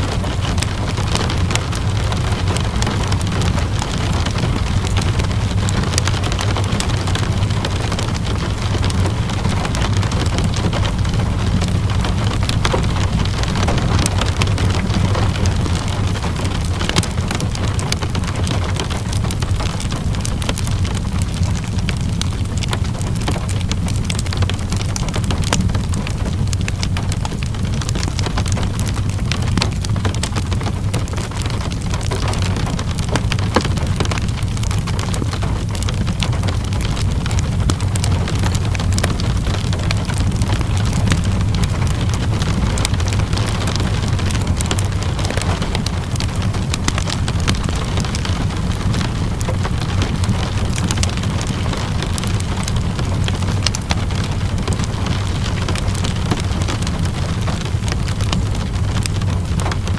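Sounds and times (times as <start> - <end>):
low rumble: 0.0 - 59.9
rain hiss: 0.0 - 59.9
wood fire crackling: 0.0 - 59.9.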